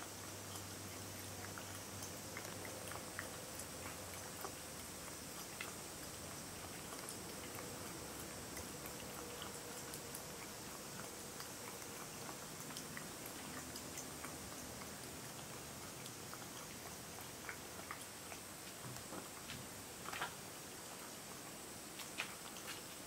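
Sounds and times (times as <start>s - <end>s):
cat lapping milk: 0.0s - 23.0s
steady low hiss: 0.0s - 23.0s.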